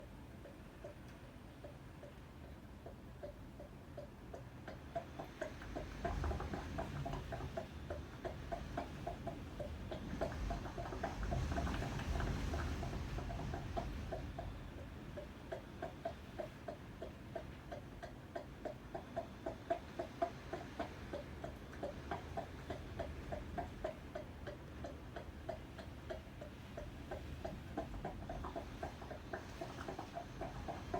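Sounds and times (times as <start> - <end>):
air conditioner ticking: 0.0 - 30.9.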